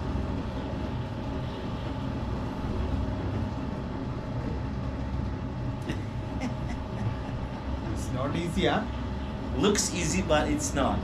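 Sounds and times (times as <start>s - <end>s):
faint whine: 0.0s - 11.0s
low motor hum: 0.0s - 11.0s.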